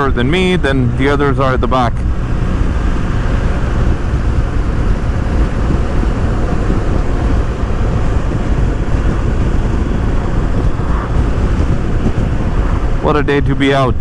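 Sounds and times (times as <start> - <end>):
motorcycle engine and tyre noise: 0.0 - 14.0
wind buffeting microphone: 0.0 - 14.0.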